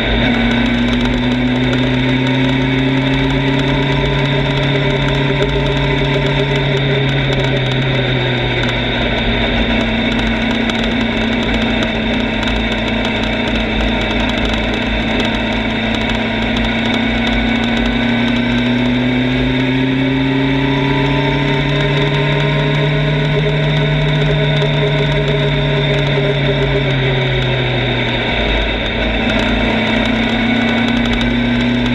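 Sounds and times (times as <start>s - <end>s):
motorcycle engine running: 0.0s - 31.9s
rushing wind noise: 0.0s - 31.9s.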